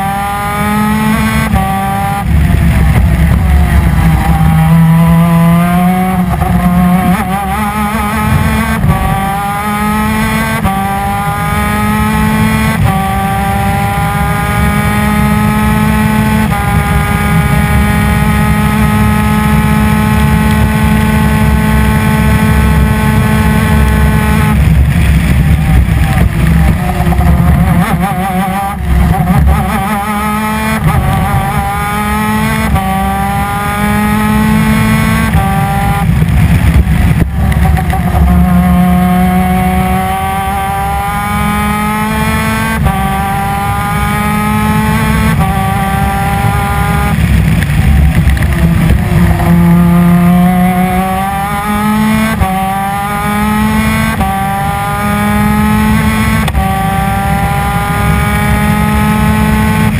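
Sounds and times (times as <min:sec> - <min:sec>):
kart engine revving through gears: 0:00.0 - 0:59.9.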